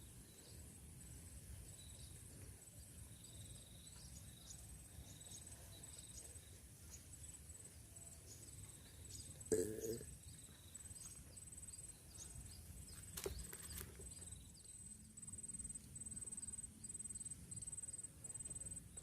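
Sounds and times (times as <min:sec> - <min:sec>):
insects chirping: 0:00.2 - 0:19.0.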